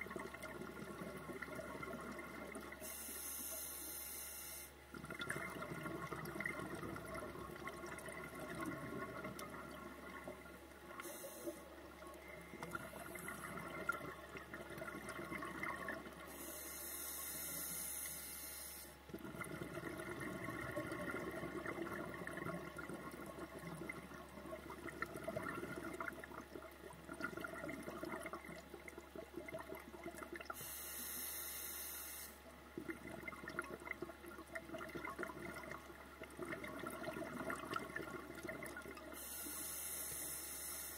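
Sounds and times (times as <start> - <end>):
exhaled air bubbling underwater: 0.0 - 3.7, 4.7 - 18.0, 18.9 - 31.3, 32.4 - 40.9.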